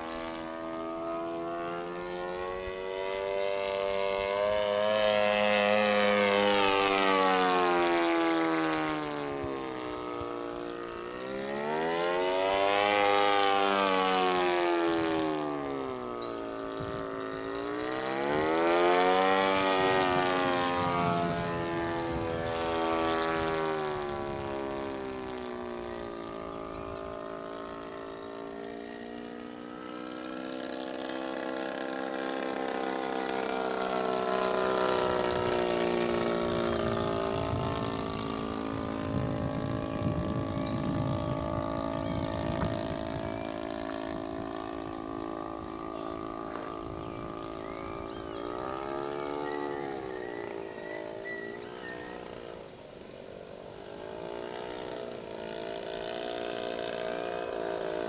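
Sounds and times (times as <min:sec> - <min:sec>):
propeller airplane engine droning: 0:00.0 - 0:58.0.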